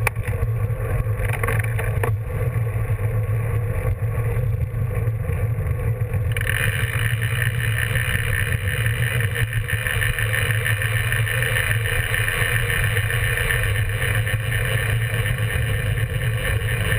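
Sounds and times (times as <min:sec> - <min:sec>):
bike tyre rolling on asphalt: 0:00.0 - 0:16.9.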